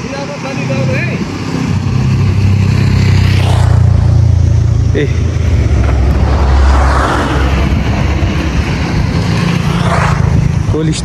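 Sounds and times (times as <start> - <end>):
engine running with low hum: 0.0 - 11.0
vehicle passing: 0.0 - 11.0.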